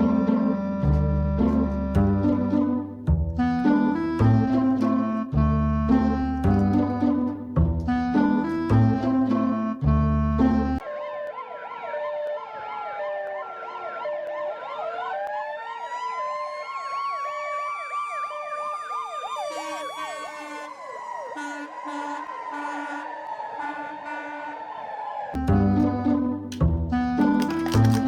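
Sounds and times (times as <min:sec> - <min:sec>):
yelp siren: 0:00.0 - 0:07.3, 0:07.9 - 0:27.4
two-tone siren: 0:00.0 - 0:27.5
wailing siren: 0:00.0 - 0:28.0.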